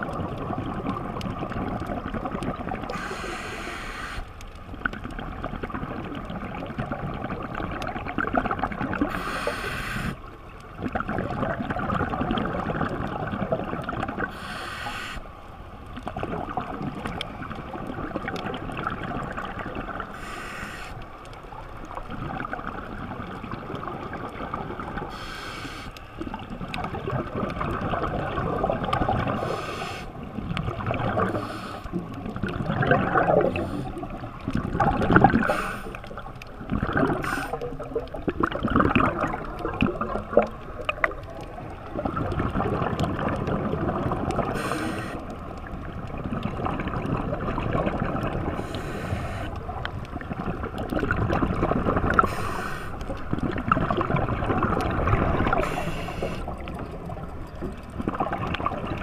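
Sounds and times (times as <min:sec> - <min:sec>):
regulator bubbles underwater: 0:00.0 - 0:59.0
rush of water noise: 0:00.0 - 0:59.0.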